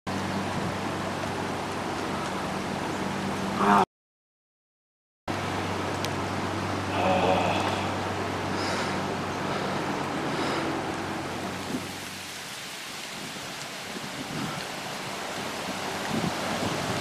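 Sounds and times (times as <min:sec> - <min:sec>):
fire burning with rushing noise: 0:00.1 - 0:03.6, 0:05.3 - 0:17.0.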